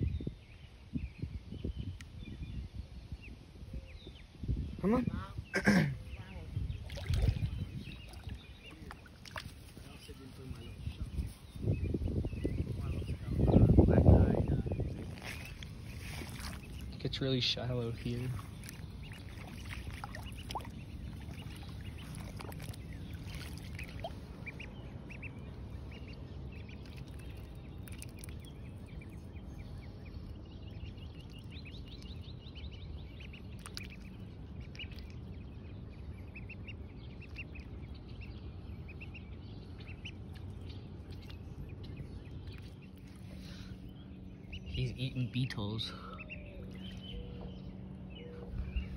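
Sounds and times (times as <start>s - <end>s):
low steady rumble: 1.0s - 48.9s
duckling peeping: 6.0s - 48.9s.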